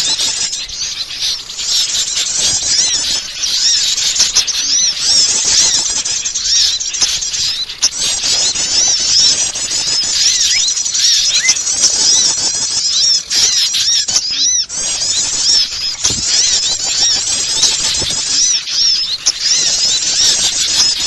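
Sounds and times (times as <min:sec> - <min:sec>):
small birds twittering: 0:00.0 - 0:21.0.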